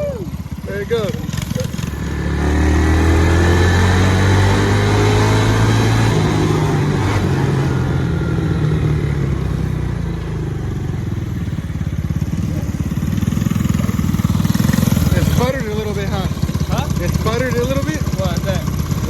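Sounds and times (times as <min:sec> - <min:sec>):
minibike engine pulling hard: 0:00.0 - 0:19.0.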